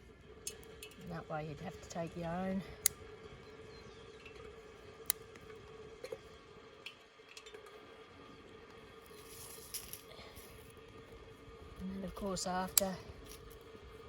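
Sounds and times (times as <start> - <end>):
faint steady hum: 0.0 - 14.0
twig fire crackling: 0.0 - 14.0.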